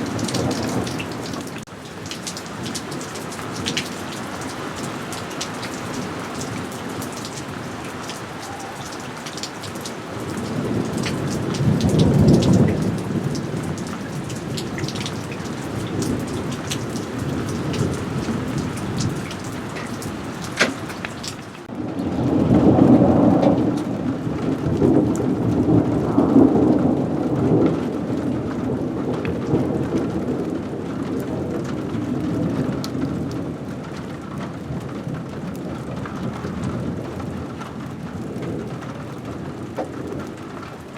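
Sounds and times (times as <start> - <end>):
thunder rumbling: 0.0 - 33.8
steady rain falling: 0.0 - 40.9.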